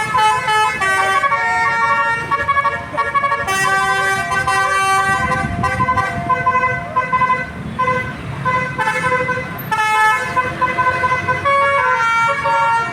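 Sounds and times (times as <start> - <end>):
musical air horn tune: 0.0 - 12.9.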